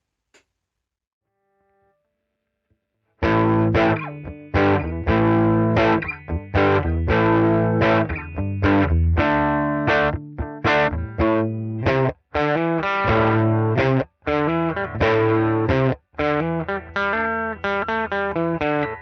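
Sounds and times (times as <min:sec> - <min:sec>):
clean electric guitar strumming chords: 0:03.2 - 0:19.0.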